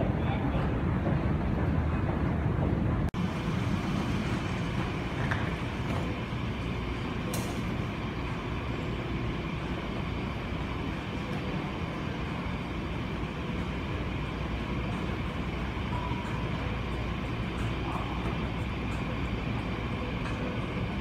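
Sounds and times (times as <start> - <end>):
airport concourse low rumble: 0.0 - 21.0.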